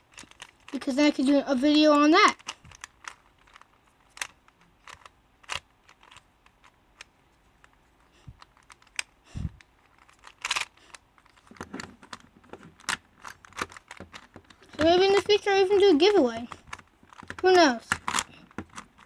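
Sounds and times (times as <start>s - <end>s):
plastic puzzle clicks and clacks: 0.0s - 19.0s.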